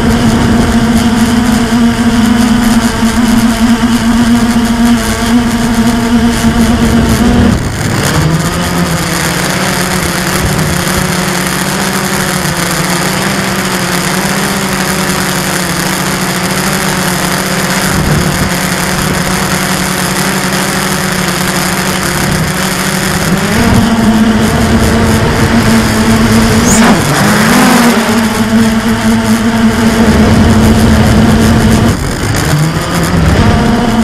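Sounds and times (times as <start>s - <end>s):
quadcopter motors humming: 0.0s - 34.0s.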